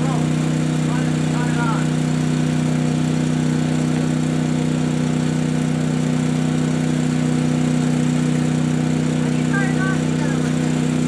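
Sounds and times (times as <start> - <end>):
generator and compressor drone: 0.0 - 11.0.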